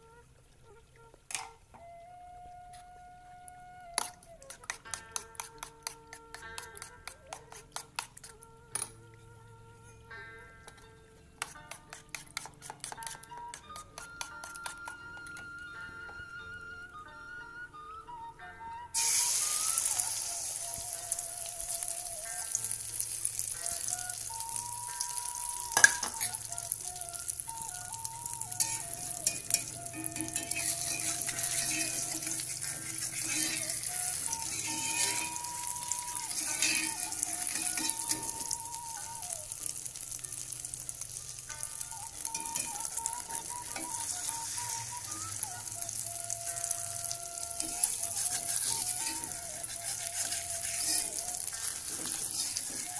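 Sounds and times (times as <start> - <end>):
egg sizzling in hot oil: 0.0 - 9.0, 11.4 - 15.5, 19.0 - 52.9.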